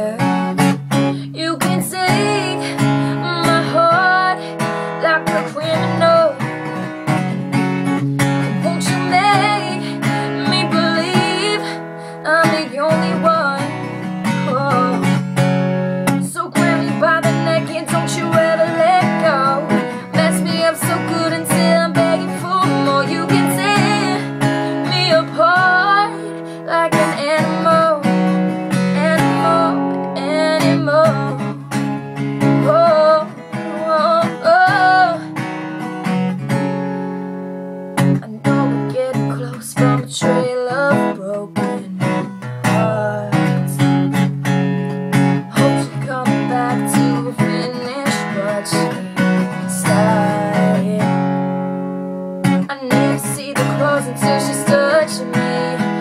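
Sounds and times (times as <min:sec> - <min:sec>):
young woman singing: 0:00.0 - 0:36.2, 0:38.0 - 0:44.3, 0:45.1 - 0:51.6, 0:52.4 - 0:56.0
acoustic guitar strummed and picked: 0:00.0 - 0:56.0.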